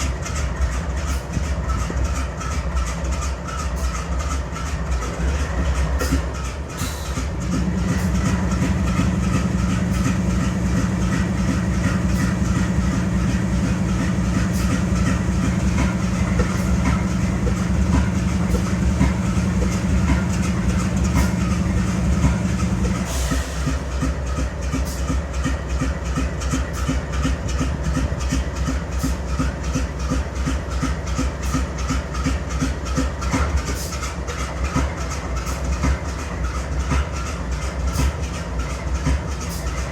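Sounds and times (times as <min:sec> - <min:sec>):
diesel locomotive idling with misfire: 0:00.0 - 0:39.9.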